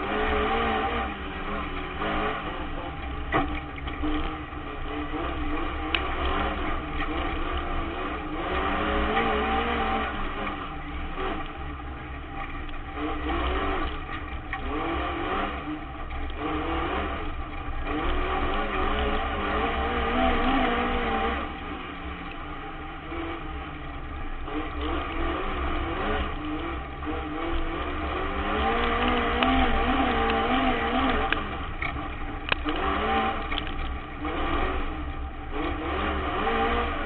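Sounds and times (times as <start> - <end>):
race car engine revving: 0.0 - 37.0
road noise: 0.0 - 37.0.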